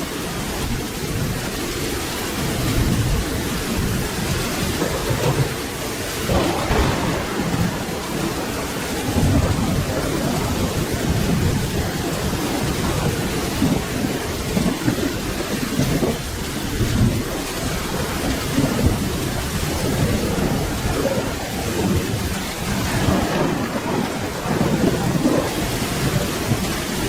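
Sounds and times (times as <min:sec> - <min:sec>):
low thunder rumbling: 0:00.0 - 0:27.0
steady rain: 0:00.0 - 0:27.0.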